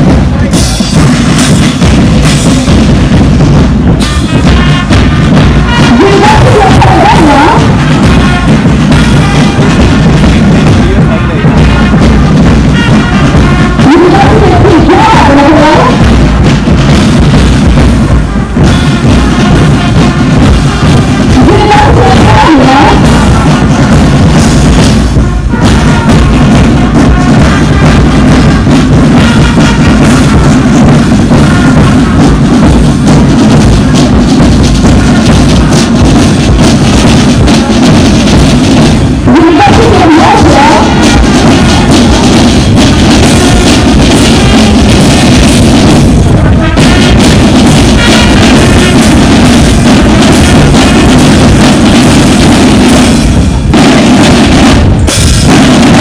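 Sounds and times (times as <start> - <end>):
loud music with drums: 0.0 - 56.0.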